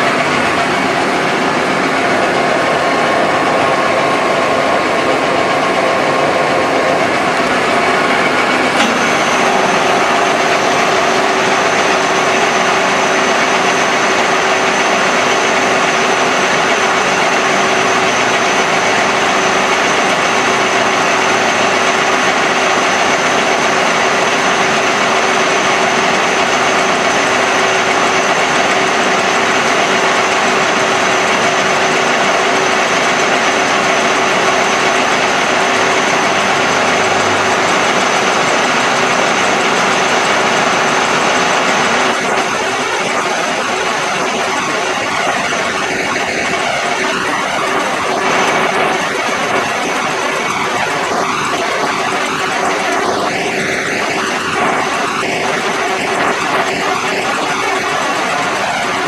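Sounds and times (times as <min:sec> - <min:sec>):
high machine whine: 0:00.0 - 0:59.0
machine humming: 0:00.0 - 0:59.0.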